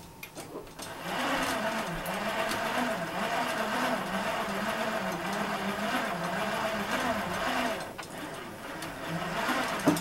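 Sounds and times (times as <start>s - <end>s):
pedal drive whirring and humming: 0.0s - 10.0s.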